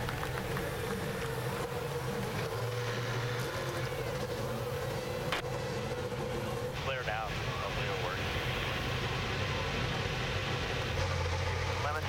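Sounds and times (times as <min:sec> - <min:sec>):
race car engines idling: 0:00.0 - 0:12.0.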